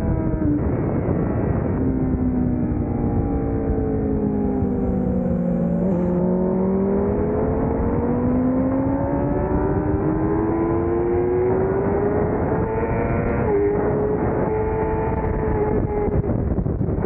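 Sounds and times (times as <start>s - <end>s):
motorcycle engine revving: 0.0s - 17.0s
wind rush: 0.0s - 17.0s.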